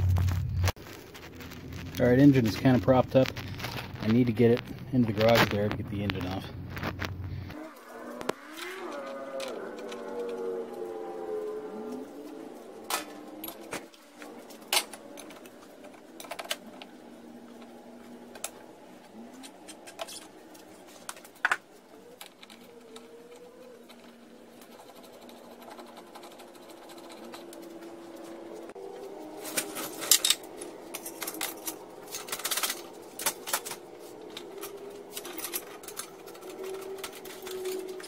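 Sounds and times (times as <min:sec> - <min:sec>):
faint wavering hum: 0:00.0 - 0:38.0.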